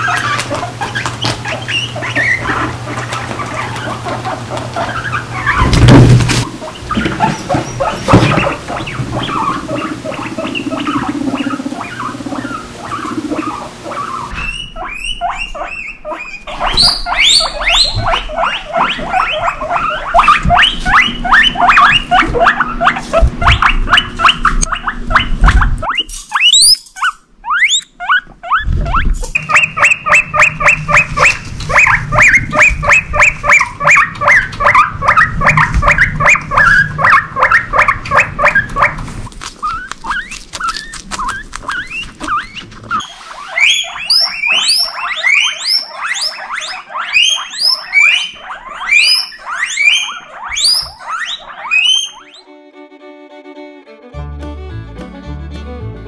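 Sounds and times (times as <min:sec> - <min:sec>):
guinea pigs wheeking: 0:00.0 - 0:52.5.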